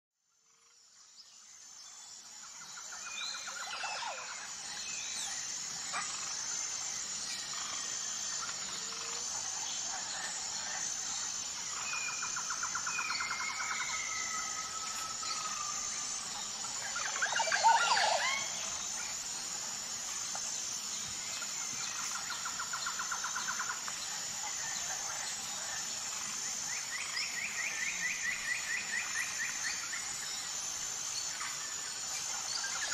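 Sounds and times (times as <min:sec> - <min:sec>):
high-pitched background buzz: 0:00.4 - 0:32.9.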